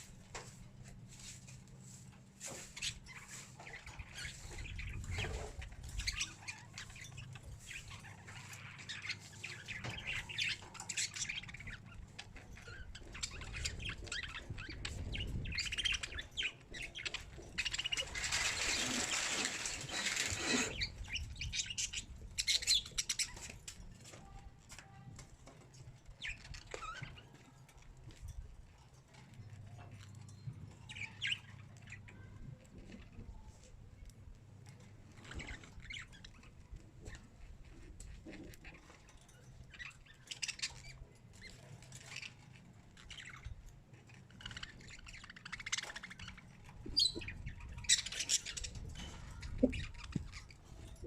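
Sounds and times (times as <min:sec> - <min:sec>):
birds chirping and squawking: 0:00.0 - 0:51.0.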